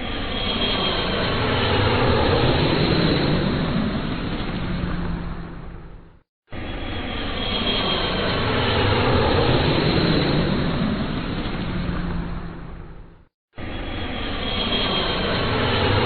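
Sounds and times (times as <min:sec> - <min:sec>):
airplane engine passing over: 0:00.0 - 0:16.0.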